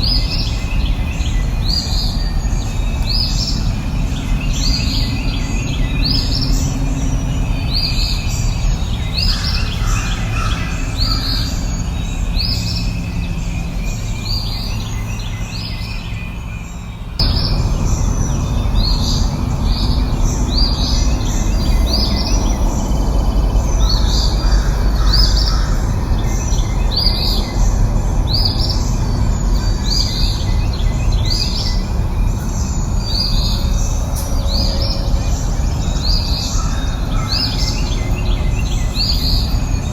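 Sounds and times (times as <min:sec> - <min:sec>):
steady low rumble: 0:00.0 - 0:16.0, 0:16.6 - 0:39.9
songbirds chirping: 0:00.0 - 0:39.9.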